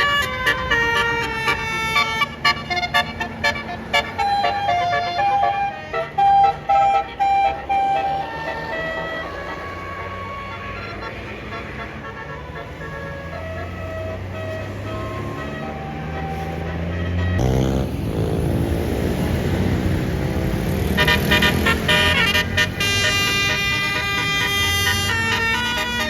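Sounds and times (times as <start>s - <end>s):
bus horn playing a tune: 0.0s - 18.6s, 20.2s - 26.0s.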